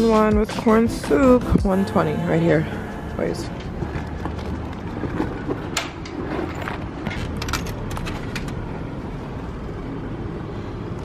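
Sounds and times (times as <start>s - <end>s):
city traffic hum: 0.0s - 11.0s.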